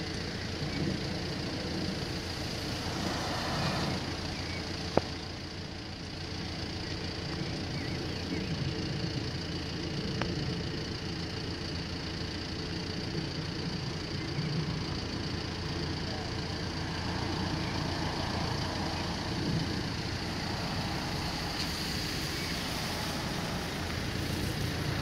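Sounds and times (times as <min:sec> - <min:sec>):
engine and road noise: 0:00.0 - 0:25.0.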